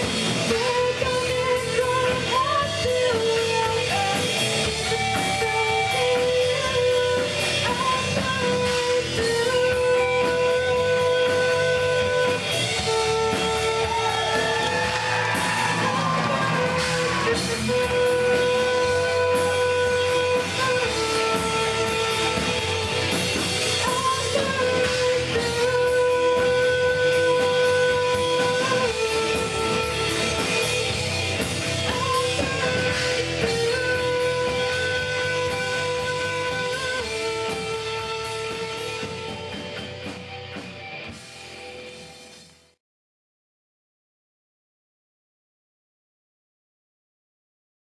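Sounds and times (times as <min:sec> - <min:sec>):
rock band music: 0:00.0 - 0:42.8.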